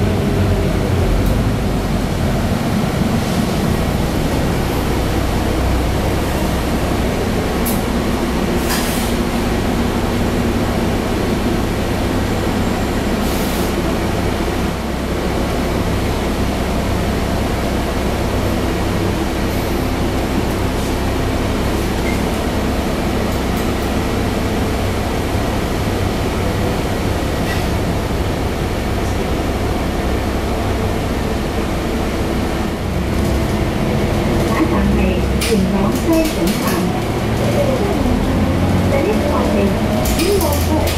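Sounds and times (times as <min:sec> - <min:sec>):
bus engine hum: 0:00.0 - 0:40.9
road noise: 0:00.0 - 0:40.9.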